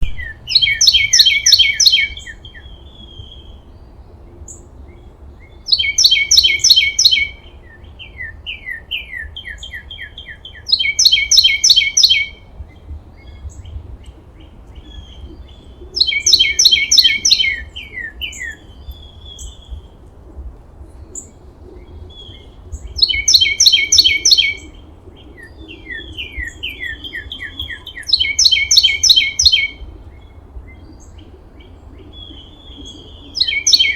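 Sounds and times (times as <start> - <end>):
soft bird trills: 0.0 - 3.6, 4.5 - 20.0, 20.9 - 33.9
songbird singing: 0.0 - 33.9.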